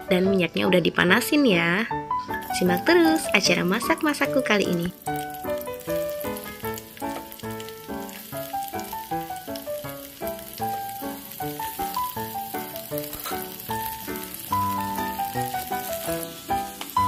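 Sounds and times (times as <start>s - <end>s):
instrumental background music: 0.0s - 17.0s
food sizzling in hot oil: 2.3s - 17.0s.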